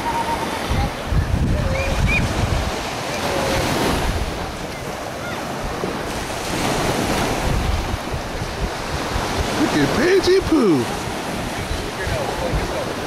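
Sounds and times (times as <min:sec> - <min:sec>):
surf washing onto sand: 0:00.0 - 0:13.0
wind buffeting microphone: 0:00.0 - 0:13.0.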